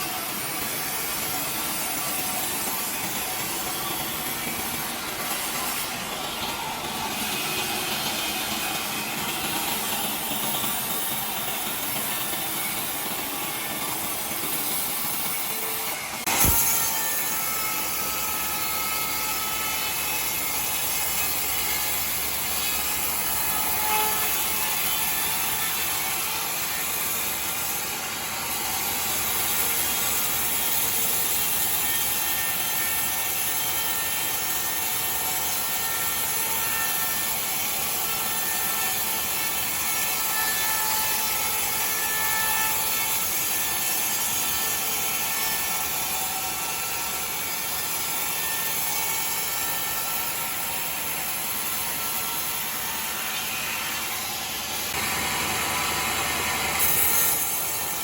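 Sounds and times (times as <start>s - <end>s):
sawmill saw cutting timber: 0.0s - 58.0s.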